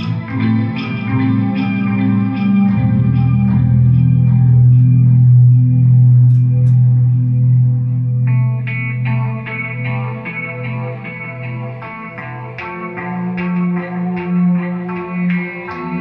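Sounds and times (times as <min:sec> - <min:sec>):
electric guitar notes: 0:00.0 - 0:16.0.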